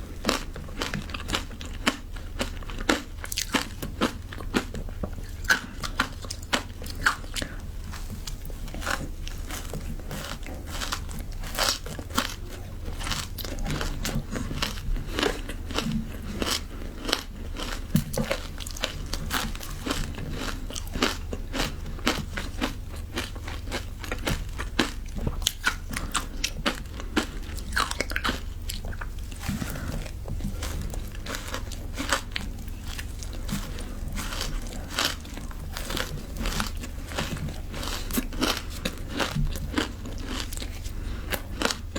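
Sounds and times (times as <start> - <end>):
chewing crunchy ice: 0.0 - 41.9
steady low hum: 0.0 - 41.9.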